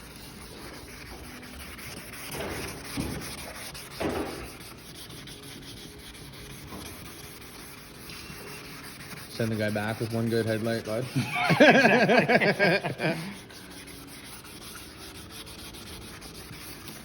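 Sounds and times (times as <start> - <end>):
sandpaper rubbing on plastic: 0.0 - 17.0.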